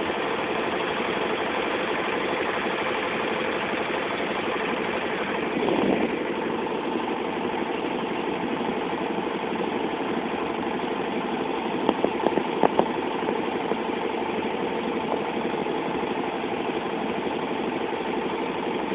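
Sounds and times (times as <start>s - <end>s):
boat engine running: 0.0s - 18.9s.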